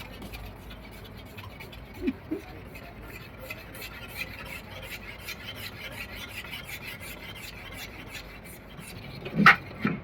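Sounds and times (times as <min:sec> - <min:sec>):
hand sanding plastic: 0:00.0 - 0:10.0.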